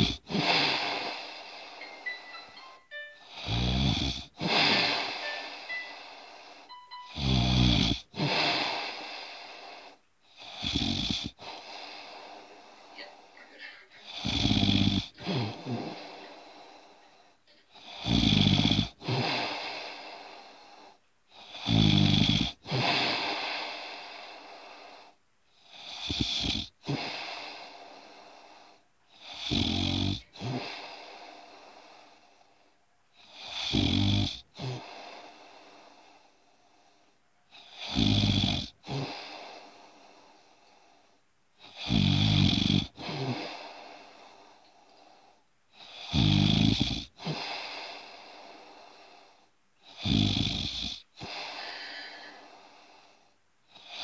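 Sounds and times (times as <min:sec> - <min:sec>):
person snoring: 0:00.0 - 0:13.4, 0:14.0 - 0:32.4, 0:33.2 - 0:45.1, 0:45.8 - 0:54.0.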